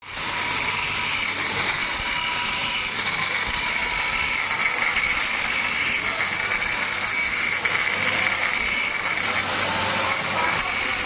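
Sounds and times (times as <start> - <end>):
machinery high whine: 0.0 - 11.0.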